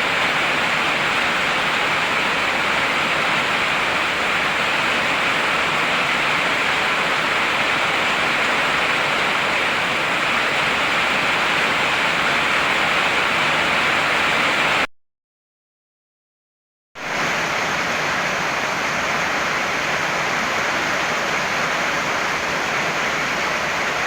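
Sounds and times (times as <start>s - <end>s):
heavy rain falling: 0.0s - 14.9s, 17.0s - 24.0s.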